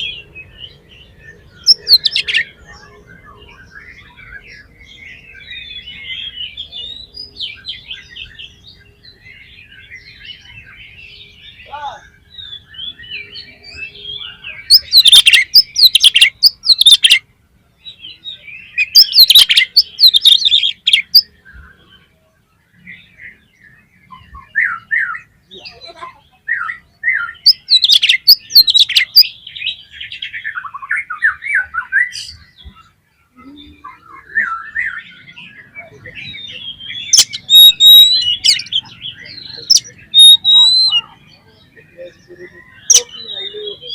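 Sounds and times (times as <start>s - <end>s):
bird singing varied phrases: 0.0s - 43.9s.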